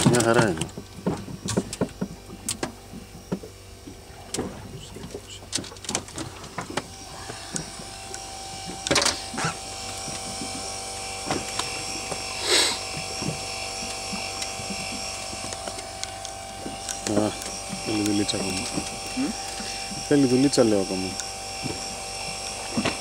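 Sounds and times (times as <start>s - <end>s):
fishing reel motor whining: 0.0s - 23.0s.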